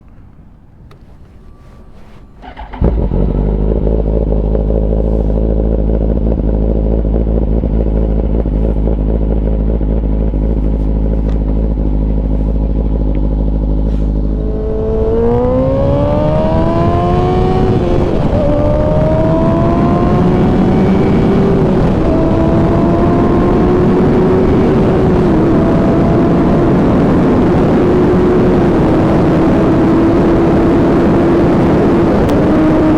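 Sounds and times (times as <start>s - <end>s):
motorcycle engine revving through gears: 0.9s - 32.9s.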